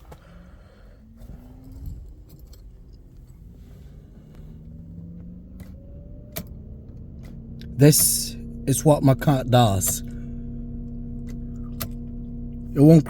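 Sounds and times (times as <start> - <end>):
faint low hum: 0.0 - 13.0
car key jangling: 1.1 - 12.3.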